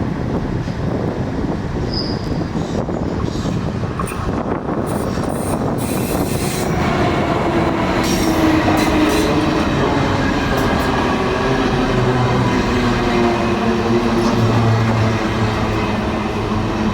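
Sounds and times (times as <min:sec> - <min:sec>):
train wheels rumbling: 0:00.0 - 0:16.9.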